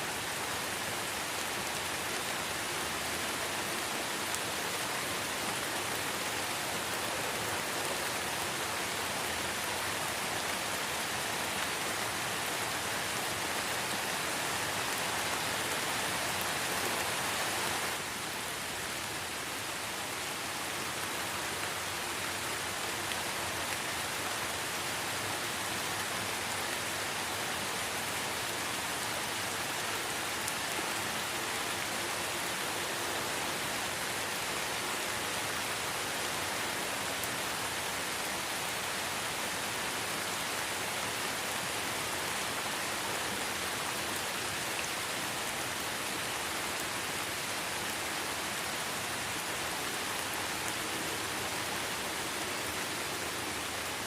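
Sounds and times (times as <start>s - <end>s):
light rain in forest: 0.0s - 54.0s.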